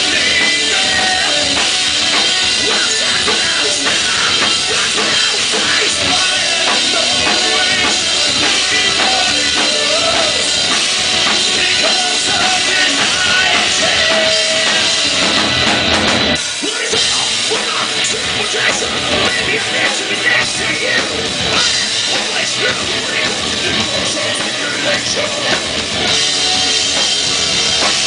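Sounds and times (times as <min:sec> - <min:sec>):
heavy metal band playing live: 0:00.0 - 0:28.0.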